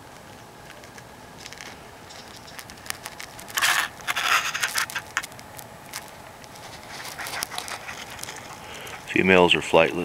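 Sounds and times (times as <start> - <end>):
close scraping and rustling: 0.6 - 10.0.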